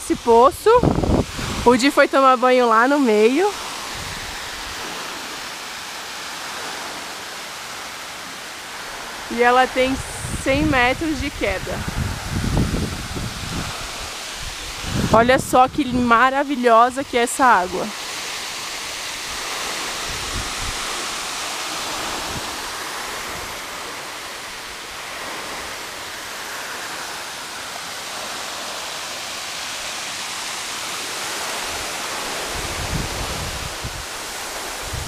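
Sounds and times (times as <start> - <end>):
water running over rocks: 0.0 - 35.0
waterfall rushing: 0.0 - 35.0.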